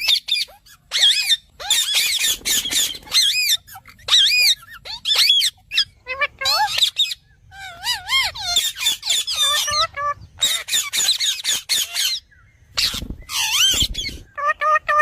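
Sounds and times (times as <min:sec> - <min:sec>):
parrot squawking and whistling: 0:00.0 - 0:15.0.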